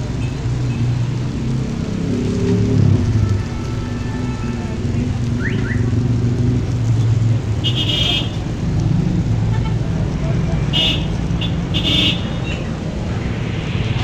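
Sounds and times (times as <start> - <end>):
traffic engine rumble: 0.0 - 14.0.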